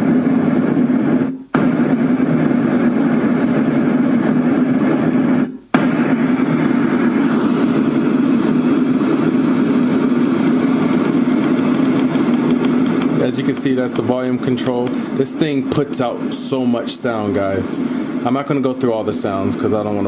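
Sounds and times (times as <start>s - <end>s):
white noise machine: 0.0s - 20.0s.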